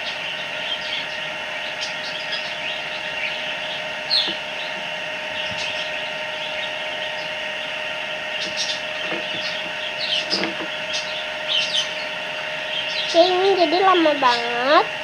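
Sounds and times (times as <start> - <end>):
steady multi-tone hum: 0.0 - 15.0.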